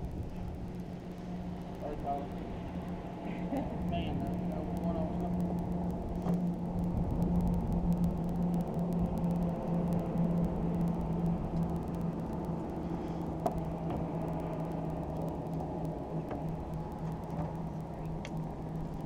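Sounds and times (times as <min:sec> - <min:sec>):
outboard engine humming: 0:00.0 - 0:19.0
wind and water rumble: 0:00.0 - 0:19.0.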